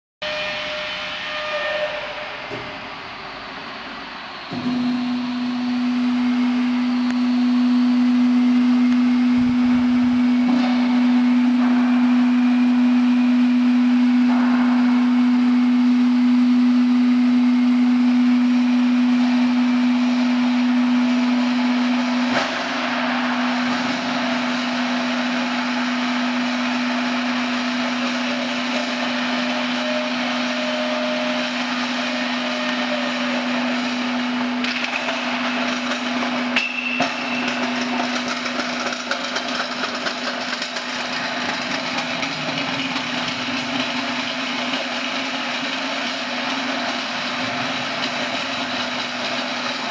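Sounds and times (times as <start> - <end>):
mixer motor humming: 3.0 - 49.9.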